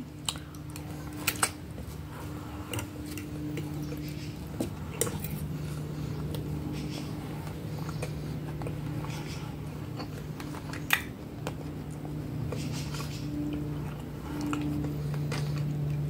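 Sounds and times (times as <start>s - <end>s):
close-up chewing: 0.0s - 16.0s
steady low hum: 0.0s - 16.0s.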